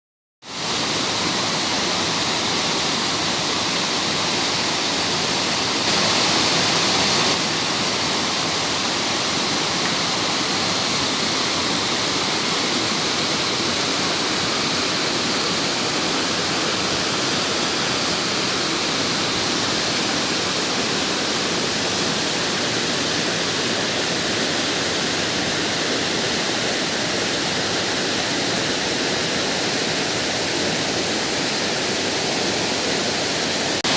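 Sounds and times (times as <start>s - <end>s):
rushing water roar: 0.5s - 33.9s.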